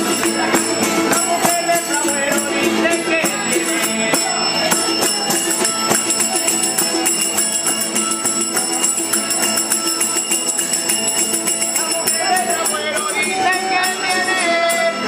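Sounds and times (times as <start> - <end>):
acoustic guitars strumming: 0.0 - 15.0
metal hand percussion jingling: 0.0 - 15.0.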